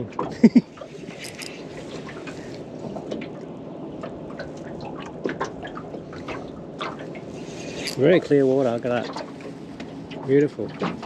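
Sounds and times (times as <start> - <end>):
water lapping and dripping: 0.0 - 11.0.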